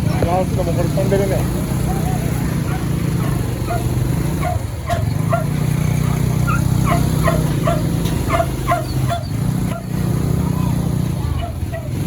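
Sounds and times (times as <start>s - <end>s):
low vehicle hum: 0.0s - 12.0s.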